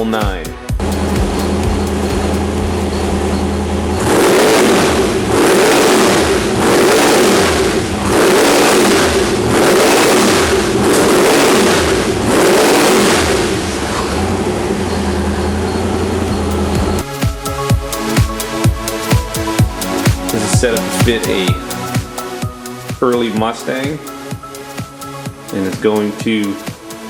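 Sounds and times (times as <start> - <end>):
car engine idling and revving: 0.7 - 27.0.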